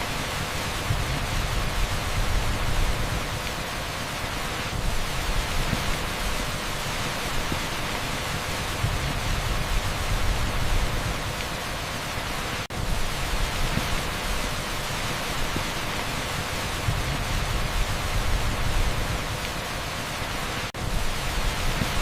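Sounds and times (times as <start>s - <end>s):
heavy rain on asphalt: 0.0s - 22.0s.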